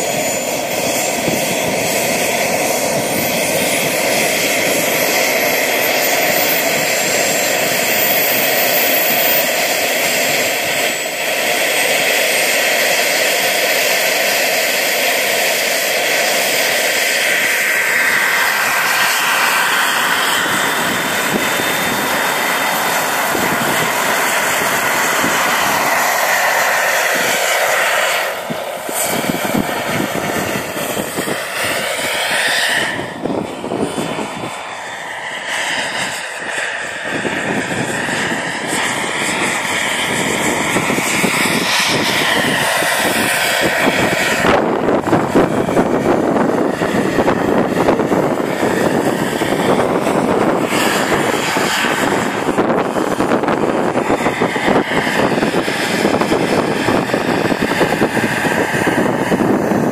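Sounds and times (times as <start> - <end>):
helicopter turbine whining: 0.0 - 59.9
rushing noise: 0.0 - 59.9.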